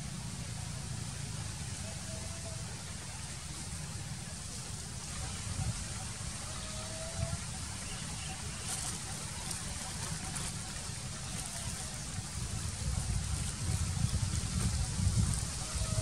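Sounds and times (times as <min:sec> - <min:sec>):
hiss over low rumble: 0:00.0 - 0:16.0.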